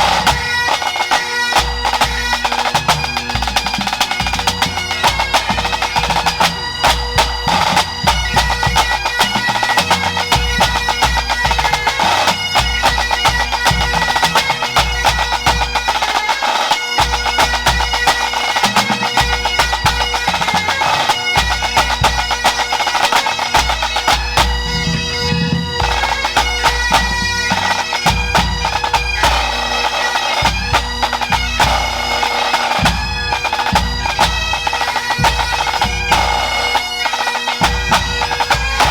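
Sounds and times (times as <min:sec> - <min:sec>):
snare drums rattling: 0:00.0 - 0:24.6, 0:25.8 - 0:38.9
bagpipes playing a tune: 0:00.0 - 0:38.9.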